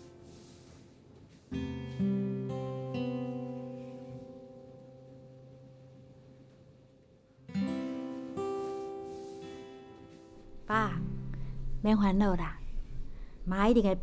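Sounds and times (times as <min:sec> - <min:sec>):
acoustic guitar plucked notes: 0:00.0 - 0:12.8.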